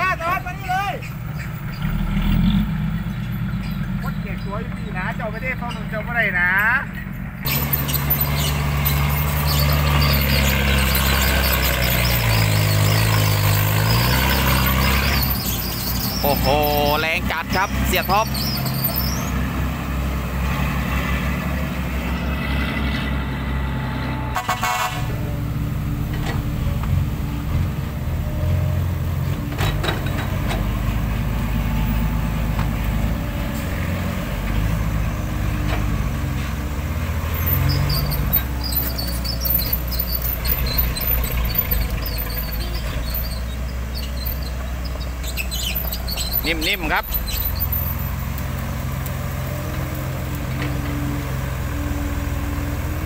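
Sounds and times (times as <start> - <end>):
diesel truck engine under load: 0.0 - 53.0.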